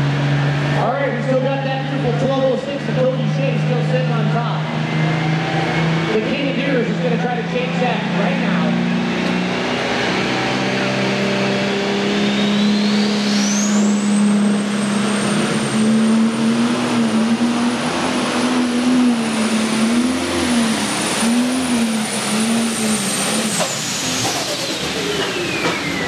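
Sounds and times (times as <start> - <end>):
diesel tractor engine at full power: 0.0 - 26.0
turbo whine: 0.0 - 26.0.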